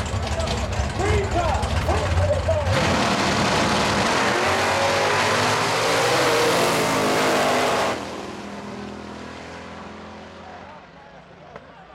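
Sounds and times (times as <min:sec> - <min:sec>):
drag racing cars accelerating: 0:00.0 - 0:11.0.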